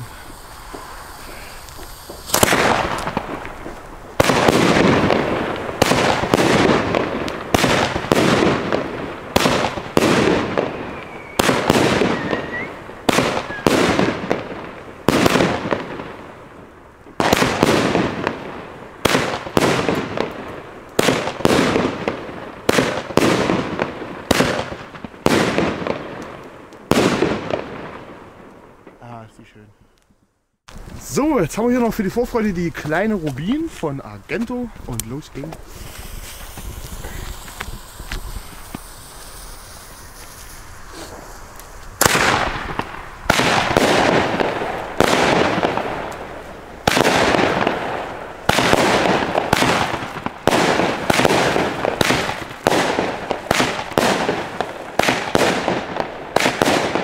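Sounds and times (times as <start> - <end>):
firework bangs: 0.0 - 29.1, 34.3 - 57.0.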